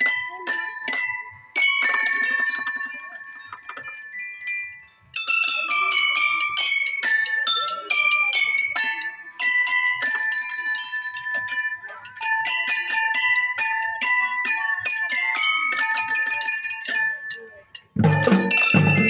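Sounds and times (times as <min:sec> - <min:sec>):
marching glockenspiels playing melody: 0:00.0 - 0:19.0.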